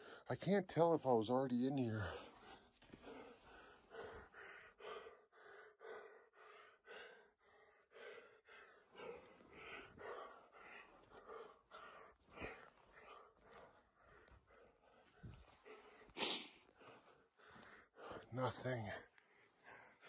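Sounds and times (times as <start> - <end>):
person breathing heavily: 0.0 - 0.3, 2.0 - 20.0.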